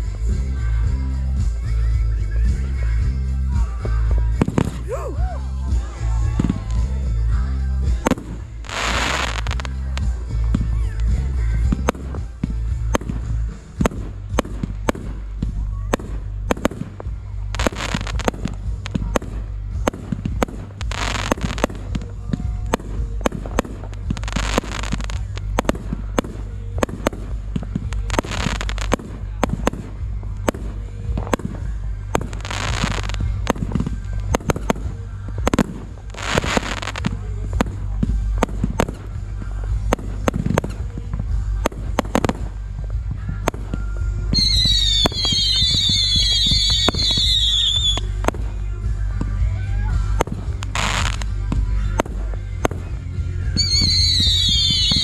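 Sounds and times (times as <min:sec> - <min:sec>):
firework bangs and pops: 0:00.0 - 0:04.9, 0:05.7 - 0:55.0
firework crackling bursts: 0:00.0 - 0:55.0.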